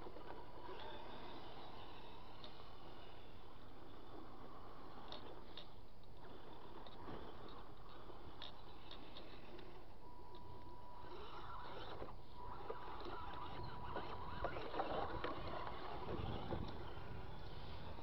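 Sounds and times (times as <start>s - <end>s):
small electric motor whining: 0.0s - 18.0s.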